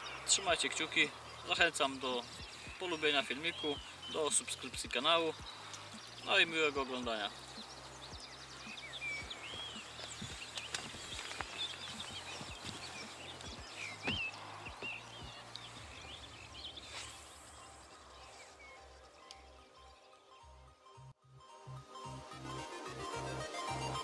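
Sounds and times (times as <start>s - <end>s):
songbirds singing: 0.0s - 21.1s.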